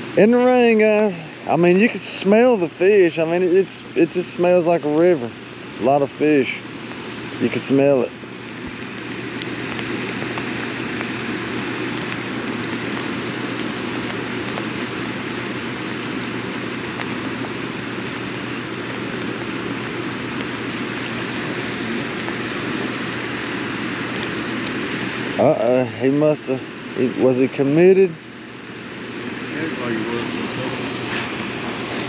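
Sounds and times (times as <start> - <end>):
low steady hum: 0.0 - 32.0
rain falling: 0.0 - 32.0
water rushing through spillway: 0.0 - 32.0.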